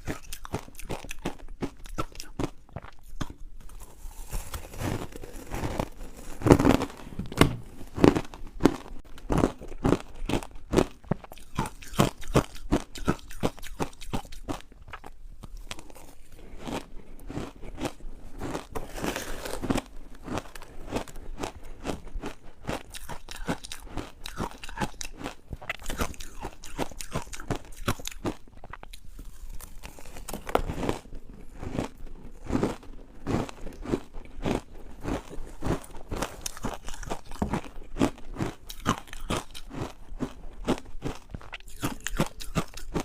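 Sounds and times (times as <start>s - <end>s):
ice being chewed: 0.0s - 7.1s, 7.8s - 43.0s.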